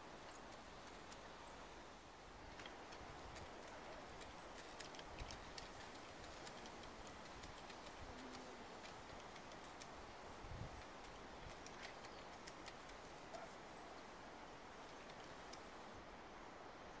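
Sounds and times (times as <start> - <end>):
faint irregular clicks and ticks: 0.0 - 16.0.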